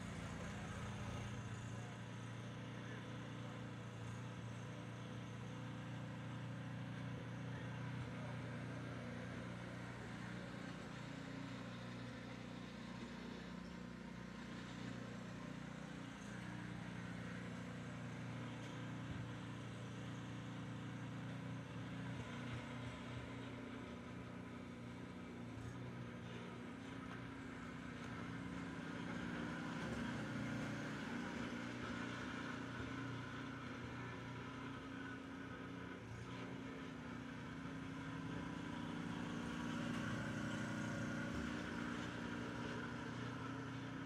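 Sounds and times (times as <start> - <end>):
snowblower engine running: 0.0 - 44.0.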